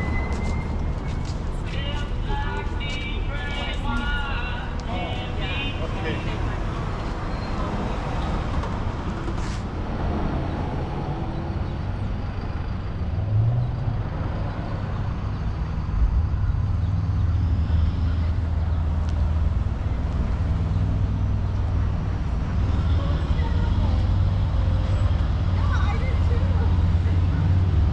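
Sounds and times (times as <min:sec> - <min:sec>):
vehicle engine rumbling: 0:00.0 - 0:27.9.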